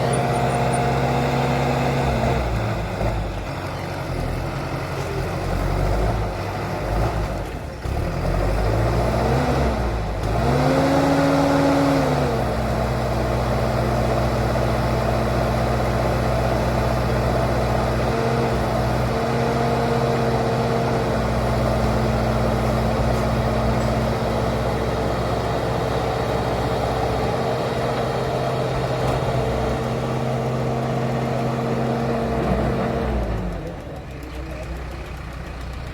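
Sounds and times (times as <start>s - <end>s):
diesel engine idling and revving: 0.0s - 35.9s.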